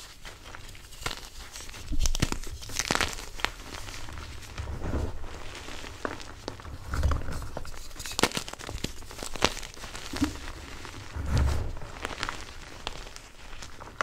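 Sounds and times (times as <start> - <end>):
chalk being crushed by hand: 0.0 - 4.7, 5.4 - 14.0.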